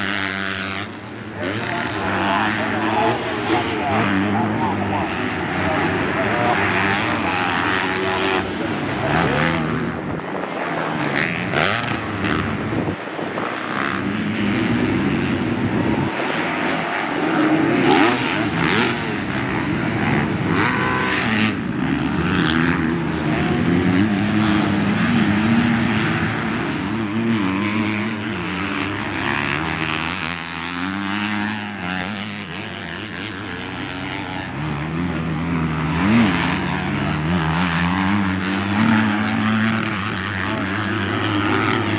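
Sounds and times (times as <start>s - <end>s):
motocross bikes revving: 0.0s - 41.9s.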